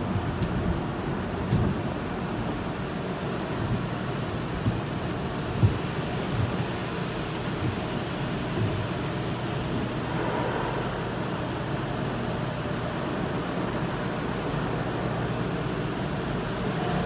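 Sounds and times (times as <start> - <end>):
car wash rushing noise: 0.0 - 17.0
constant low hum: 0.0 - 17.0.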